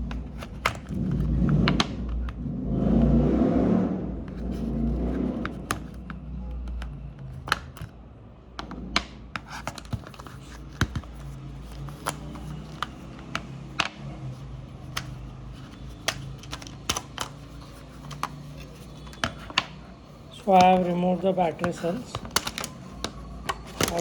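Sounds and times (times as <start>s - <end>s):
hard plastic clicks and taps: 0.0s - 2.4s, 4.3s - 24.0s.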